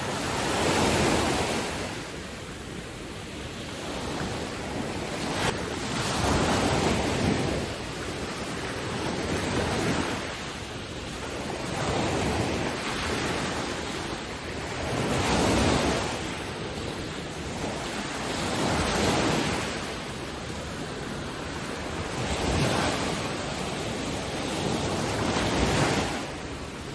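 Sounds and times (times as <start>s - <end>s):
ocean waves breaking: 0.0s - 26.9s.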